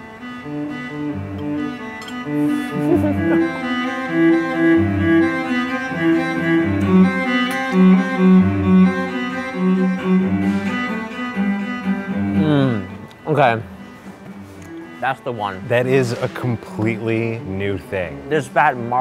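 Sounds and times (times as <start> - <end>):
bowed cello melody: 0.0 - 19.0.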